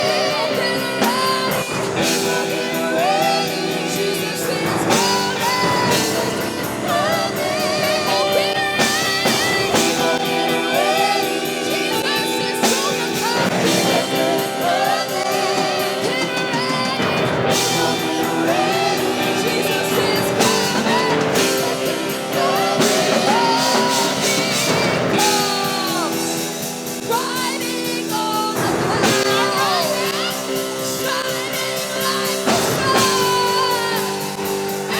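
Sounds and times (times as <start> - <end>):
band with drums and guitar: 0.0 - 34.9
person singing worship song: 0.0 - 34.9.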